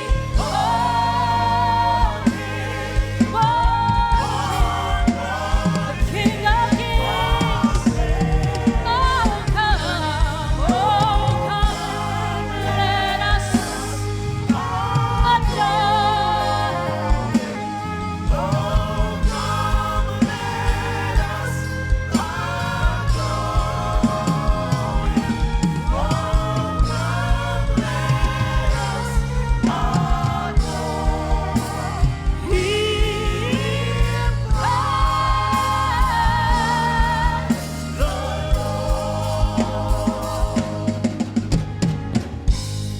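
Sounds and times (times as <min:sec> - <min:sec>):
voices singing gospel: 0:00.0 - 0:42.6
band accompaniment with steady beat: 0:00.0 - 0:42.9.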